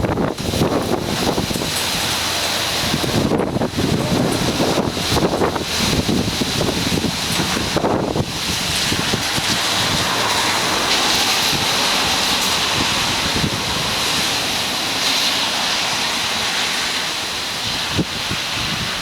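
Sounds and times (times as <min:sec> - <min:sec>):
strong wind rushing: 0:00.0 - 0:19.0
wind buffeting microphone: 0:00.0 - 0:19.0.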